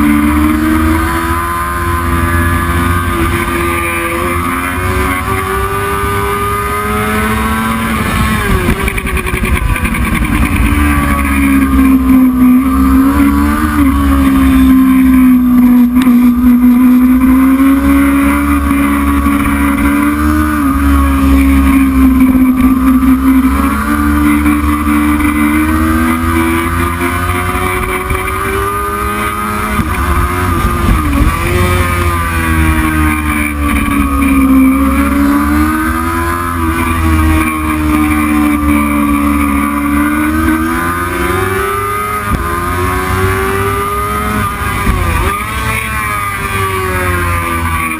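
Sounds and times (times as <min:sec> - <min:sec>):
racing motorcycle engine: 0:00.0 - 0:47.9.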